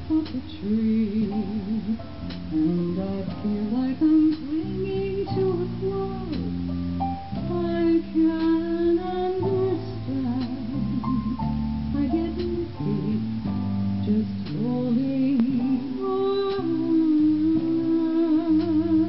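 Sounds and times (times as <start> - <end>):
woman singing into microphone: 0.0 - 6.7, 7.4 - 19.0.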